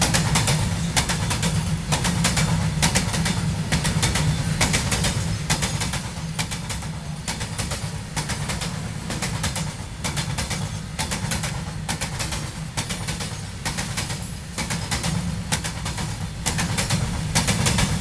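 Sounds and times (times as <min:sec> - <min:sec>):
wheels clattering over rail joints: 0:00.0 - 0:18.0.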